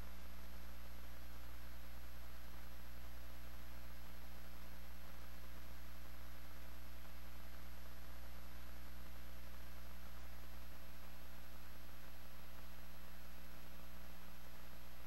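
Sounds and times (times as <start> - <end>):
faint high whine: 0.0 - 15.0
steady electrical hum: 0.0 - 15.0
tape hiss: 0.0 - 15.0.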